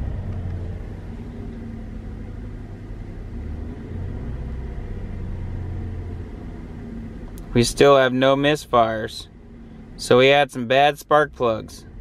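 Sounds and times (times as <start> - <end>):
car engine at raised revs: 0.0 - 12.0.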